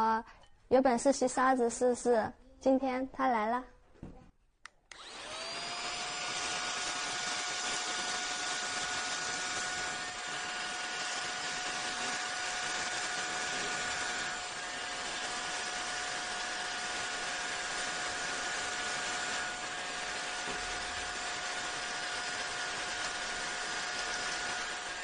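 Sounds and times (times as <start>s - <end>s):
handheld vacuum cleaner motor whine: 4.9s - 25.0s.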